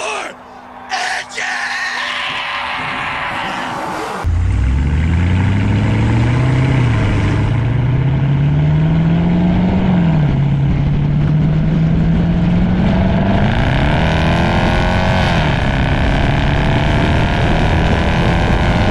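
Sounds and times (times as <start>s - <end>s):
truck engine accelerating: 3.4s - 18.9s.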